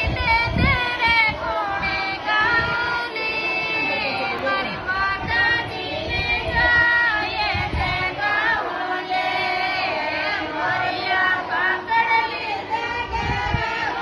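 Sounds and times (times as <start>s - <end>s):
woman singing devotional folk song: 0.0s - 14.0s.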